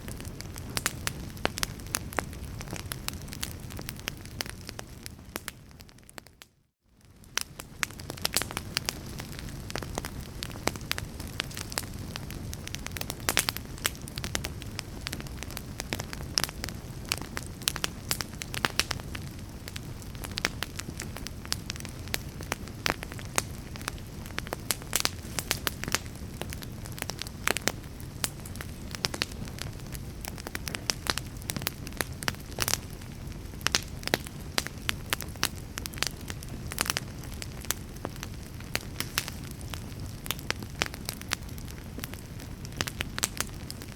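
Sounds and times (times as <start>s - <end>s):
fire crackling: 0.0s - 43.9s.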